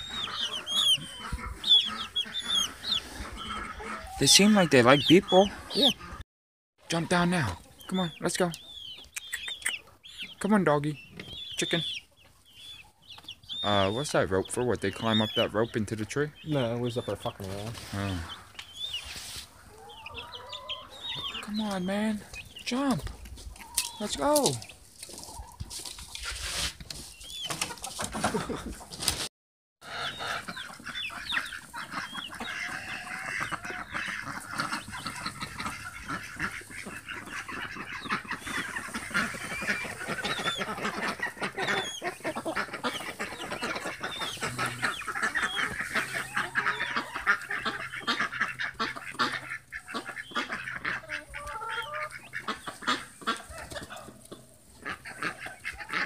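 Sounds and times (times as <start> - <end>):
poultry calling: 0.0 - 6.2, 6.9 - 28.6, 29.8 - 56.0.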